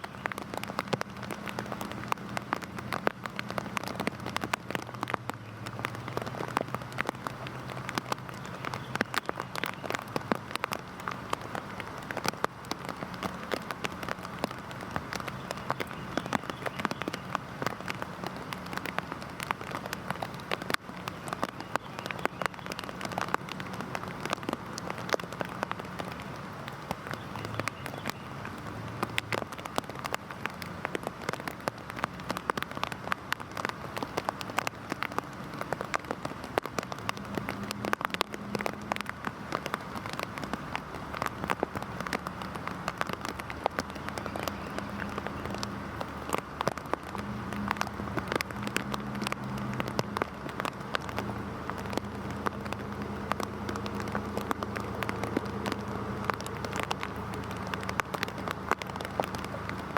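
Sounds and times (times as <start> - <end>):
heavy rain on hard surface: 0.0 - 59.9.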